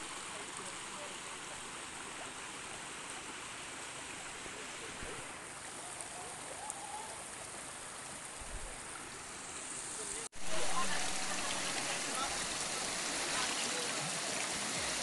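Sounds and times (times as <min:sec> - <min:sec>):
stream running over rocks: 0:00.0 - 0:15.0.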